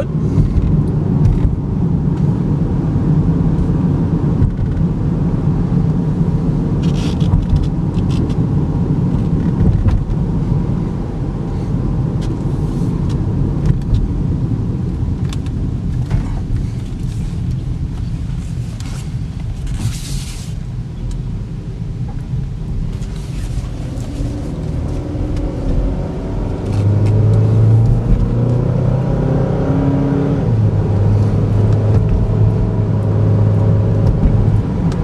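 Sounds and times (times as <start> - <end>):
car engine hum: 0.0 - 35.0
road and tyre rumble: 0.0 - 35.0.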